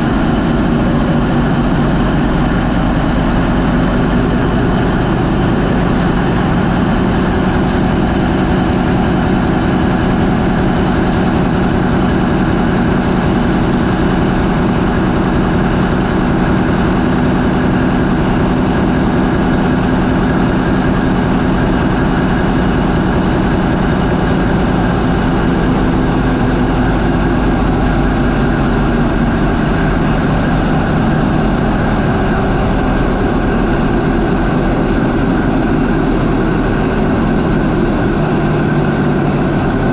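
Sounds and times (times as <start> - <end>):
deep diesel engine idling: 0.0 - 39.9.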